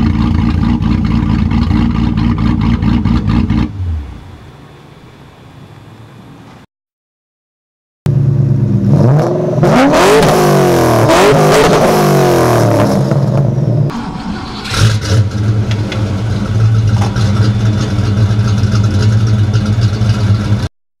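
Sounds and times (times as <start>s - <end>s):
car engine starting and revving: 0.0s - 4.5s, 8.1s - 20.7s.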